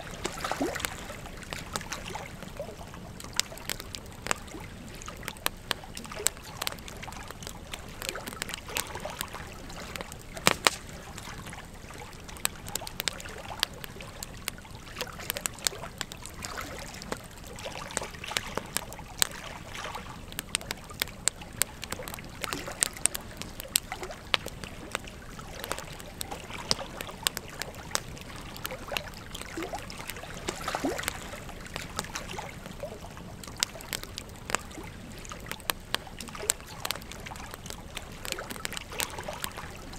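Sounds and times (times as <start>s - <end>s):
logs crackling and popping: 0.0s - 39.9s
soft hiss of flames: 0.0s - 39.9s.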